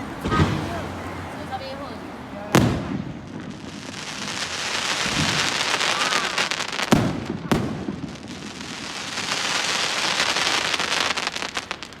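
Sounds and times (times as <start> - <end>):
fireworks crackling: 0.0 - 12.0
loud firework bangs: 0.2 - 1.2, 2.5 - 12.0.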